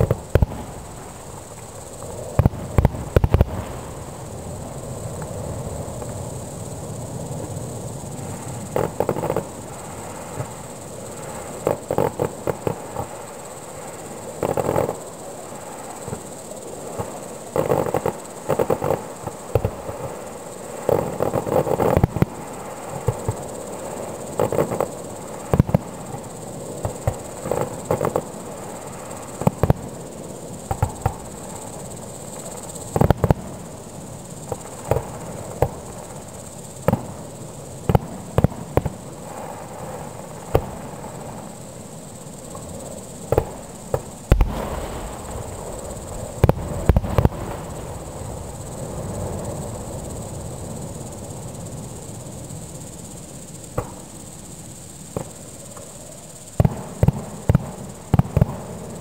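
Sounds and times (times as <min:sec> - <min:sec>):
distant fireworks bursting: 0:00.0 - 0:26.2, 0:26.8 - 0:30.0, 0:30.6 - 0:31.9, 0:32.9 - 0:33.6, 0:34.4 - 0:36.2, 0:36.8 - 0:37.2, 0:37.8 - 0:41.4, 0:42.6 - 0:50.3, 0:56.6 - 0:58.9
insects chirring: 0:00.0 - 0:59.0.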